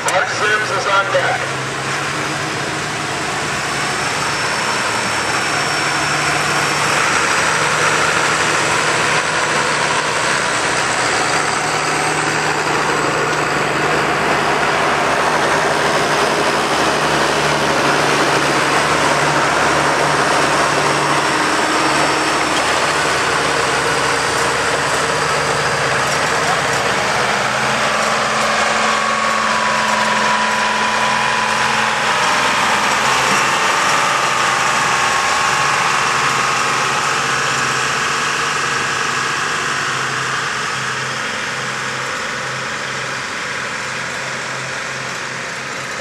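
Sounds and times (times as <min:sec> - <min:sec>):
diesel tractor engine running: 0:00.0 - 0:46.0.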